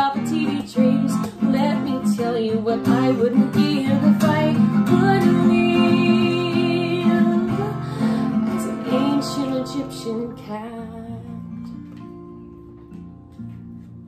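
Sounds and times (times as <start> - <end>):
woman singing: 0.0 - 11.8
strummed acoustic guitar: 0.0 - 14.0.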